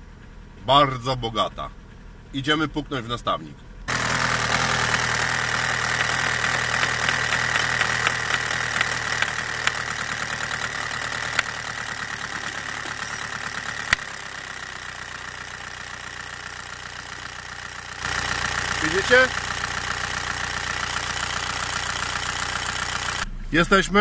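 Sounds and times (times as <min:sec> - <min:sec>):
diesel engine idling with clatter: 0:00.0 - 0:24.0.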